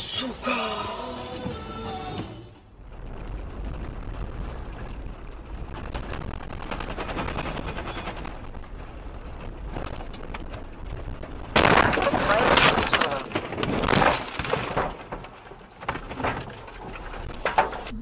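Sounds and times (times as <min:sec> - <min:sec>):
gravel crackling under tyres: 0:02.7 - 0:18.0.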